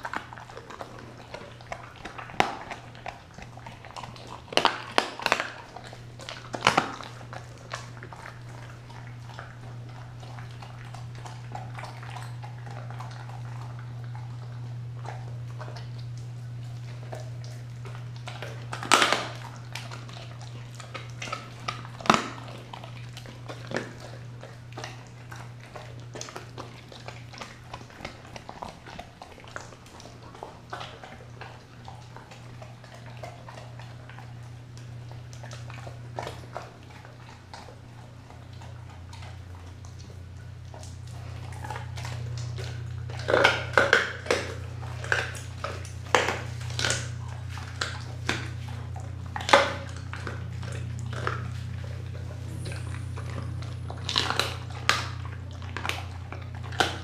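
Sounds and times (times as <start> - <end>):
dog chewing wet meat: 0.0 - 57.0
steady low hum: 0.0 - 57.0.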